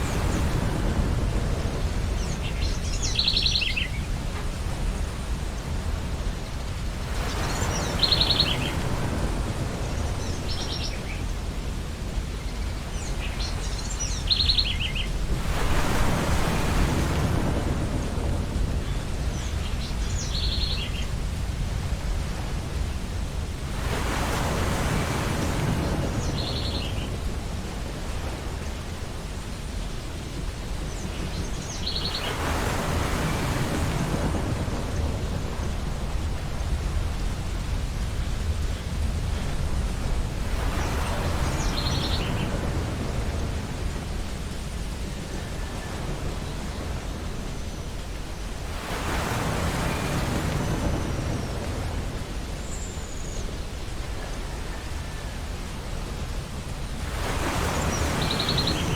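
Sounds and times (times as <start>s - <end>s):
ocean surf rumbling: 0.0s - 58.9s
waves breaking: 0.0s - 58.9s.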